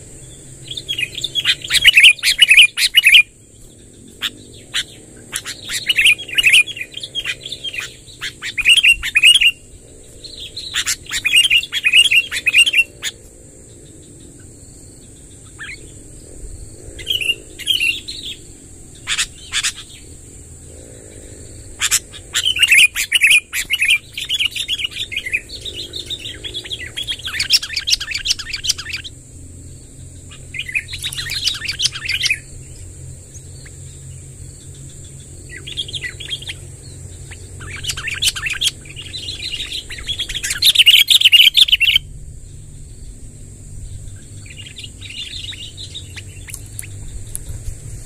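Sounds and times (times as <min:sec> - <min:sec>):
bulbul chattering song: 0:00.0 - 0:16.1, 0:16.9 - 0:42.8, 0:43.7 - 0:47.6.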